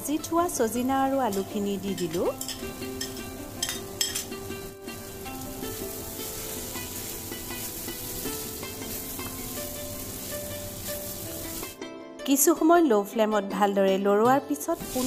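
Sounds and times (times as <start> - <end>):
food sizzling in a wok: 0.0 - 11.8, 14.6 - 15.0
soft background music: 0.0 - 15.0.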